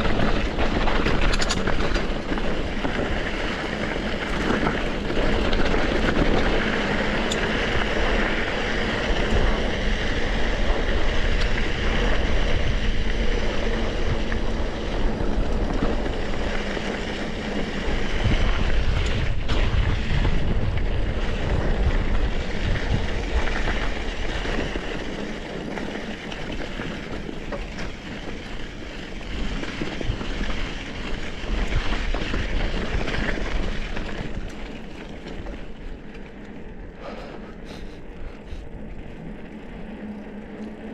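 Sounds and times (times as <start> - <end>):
bike rattling over dirt trail: 0.0 - 40.9
wind buffeting microphone: 0.0 - 40.9.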